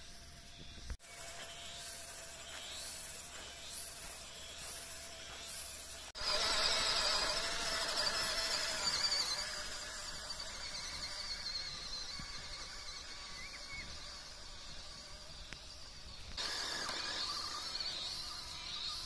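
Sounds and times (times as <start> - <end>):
toy truck electric motor whining: 0.0 - 19.0.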